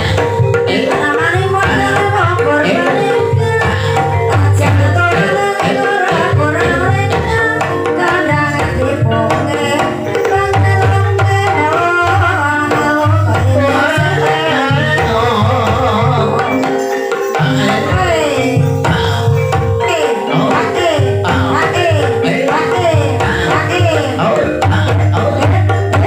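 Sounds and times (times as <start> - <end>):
gamelan music: 0.0 - 26.0
hand drum strokes: 0.0 - 26.0
wavering melody: 0.0 - 26.0.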